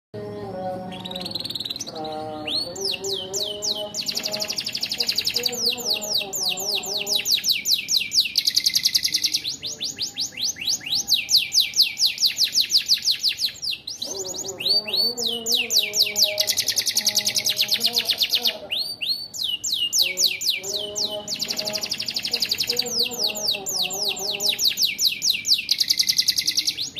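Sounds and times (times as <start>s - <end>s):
canary singing: 0.2s - 26.9s.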